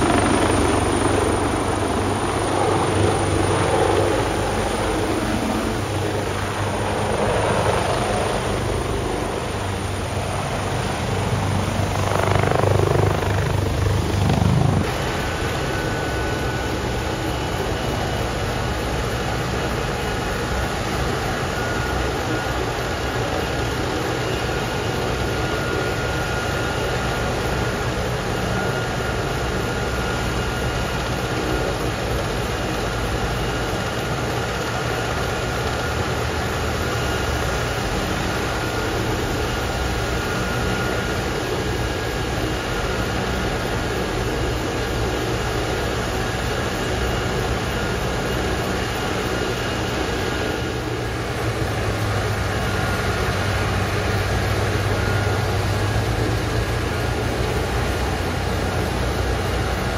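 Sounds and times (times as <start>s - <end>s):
helicopter idling: 0.0s - 59.9s.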